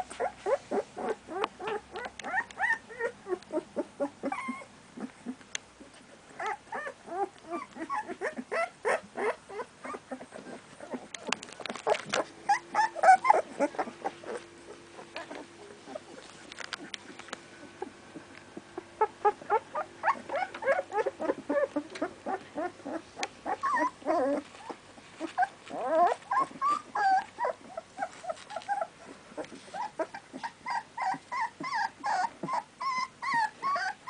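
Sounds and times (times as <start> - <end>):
puppies whimpering and squeaking: 0.0 - 34.0.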